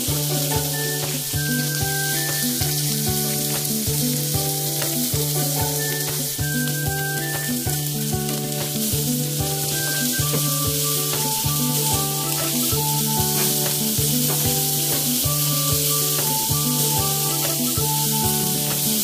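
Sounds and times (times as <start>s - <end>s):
background music with bass: 0.0s - 19.0s
metal tongs turning food: 0.0s - 19.0s
potatoes sizzling in a frying pan: 0.0s - 19.0s.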